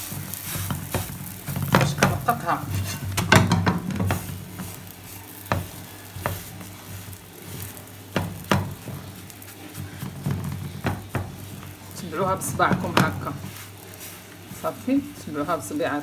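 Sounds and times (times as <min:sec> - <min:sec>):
bread sizzling in pan: 0:00.0 - 0:16.0
fingertips tapping dough: 0:00.0 - 0:16.0.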